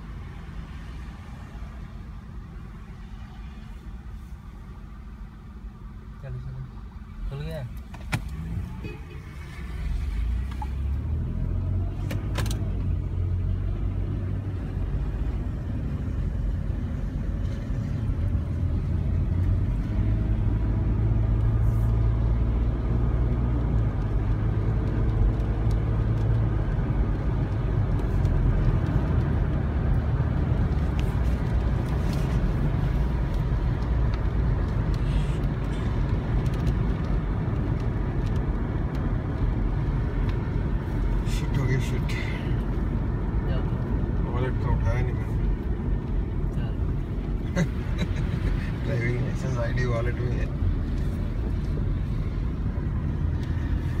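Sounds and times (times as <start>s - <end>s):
car engine: 0.0s - 54.0s
tyre noise on wet road: 7.2s - 54.0s.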